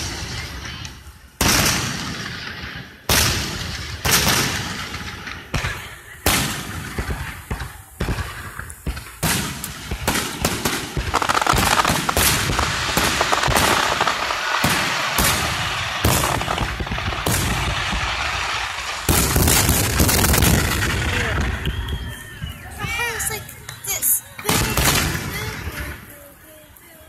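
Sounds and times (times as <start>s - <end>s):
firework booms: 0.0s - 26.2s
firework barrage with crackling: 0.0s - 26.9s.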